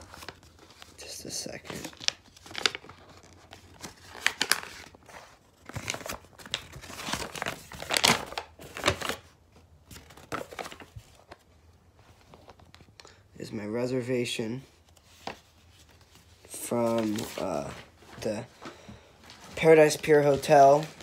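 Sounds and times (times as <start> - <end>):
paper rustling and crinkling: 0.0 - 13.3, 14.7 - 21.0.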